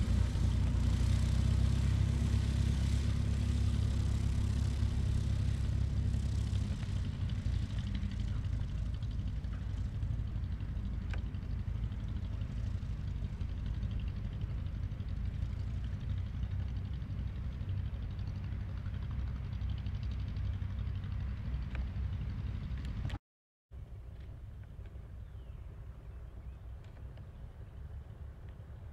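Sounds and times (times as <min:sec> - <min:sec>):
propeller plane engine running: 0:00.0 - 0:23.2, 0:23.8 - 0:28.9.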